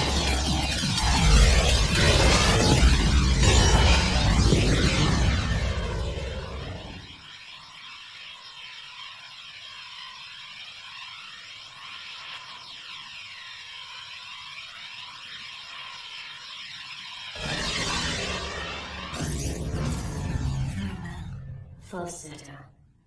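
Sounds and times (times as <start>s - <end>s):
shimmering sweeping ambient tones: 0.0s - 22.6s.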